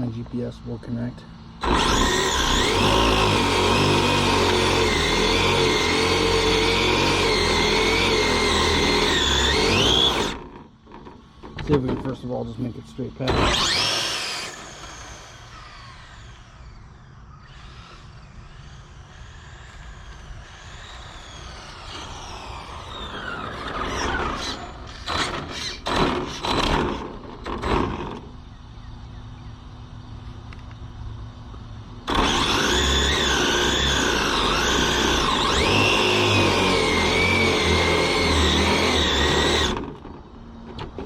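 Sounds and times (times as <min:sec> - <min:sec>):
loud steady whirring: 0:00.0 - 0:41.0
electric motor whining: 0:01.6 - 0:28.4, 0:32.0 - 0:40.3.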